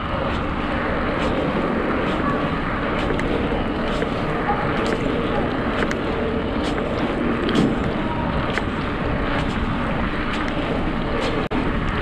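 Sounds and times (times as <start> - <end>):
bicycle road noise: 0.0 - 12.0
wind rumble on microphone: 0.0 - 12.0.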